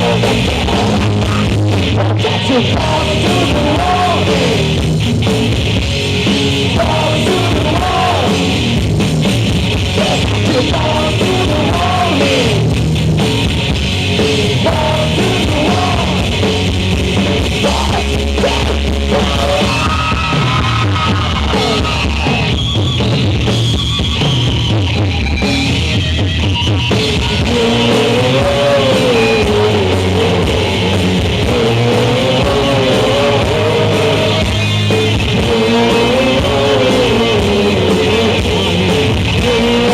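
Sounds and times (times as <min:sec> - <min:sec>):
bending melodic guitar lead: 0:00.0 - 0:39.9
live rock band playing loud: 0:00.0 - 0:39.9.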